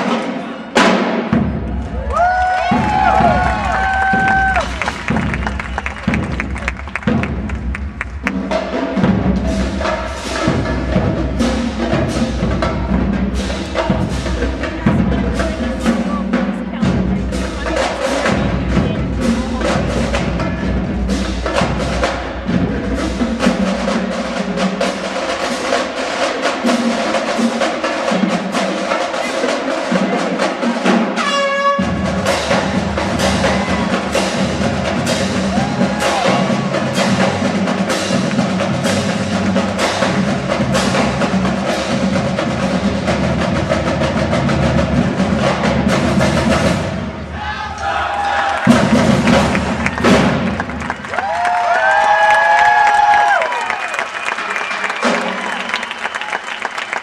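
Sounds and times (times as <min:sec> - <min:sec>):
drums and percussion: 0:00.0 - 0:57.0
marching band playing: 0:00.0 - 0:57.0.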